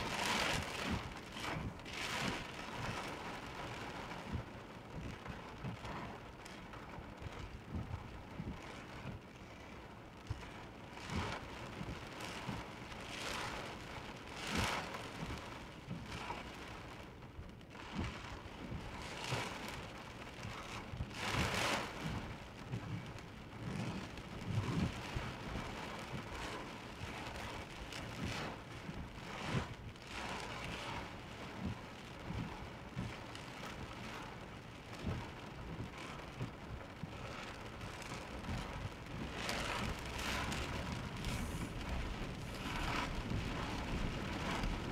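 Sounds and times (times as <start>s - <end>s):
heavy rain on car roof: 0.0s - 44.9s.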